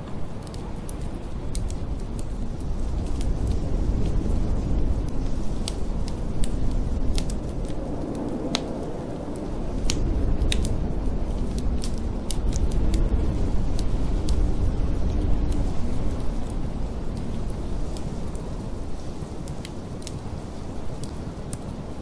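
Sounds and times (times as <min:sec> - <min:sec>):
blizzard wind rushing: 0:00.0 - 0:22.0
wood fire crackling and popping: 0:00.0 - 0:22.0.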